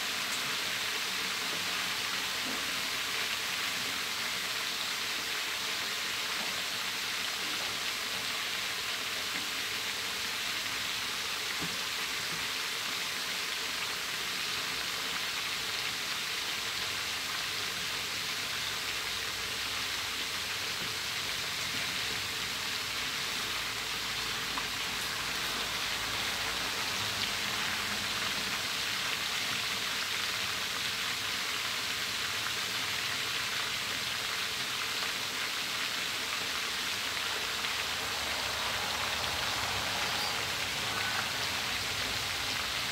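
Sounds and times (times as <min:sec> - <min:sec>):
fish deep-frying in hot oil: 0:00.0 - 0:42.9.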